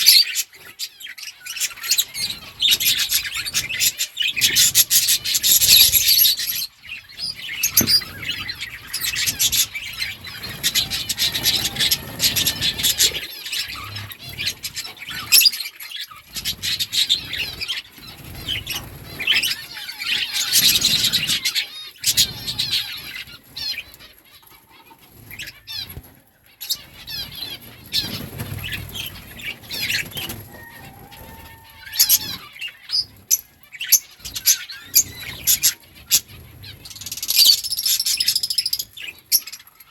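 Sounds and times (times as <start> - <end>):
budgerigars chirping: 0.0 - 26.0, 26.6 - 39.9
wings fluttering: 1.5 - 39.8.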